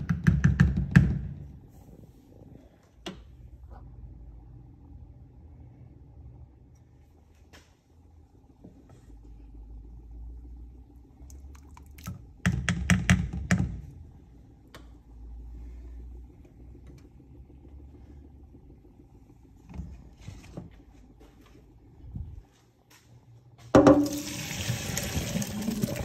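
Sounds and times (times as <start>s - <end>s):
low steady rumble: 1.1s - 26.0s.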